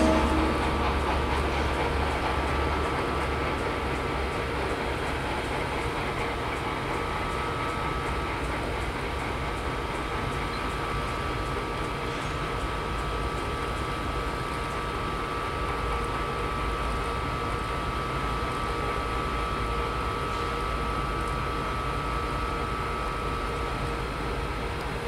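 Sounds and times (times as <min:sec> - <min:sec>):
train rumble and hum: 0:00.0 - 0:25.0.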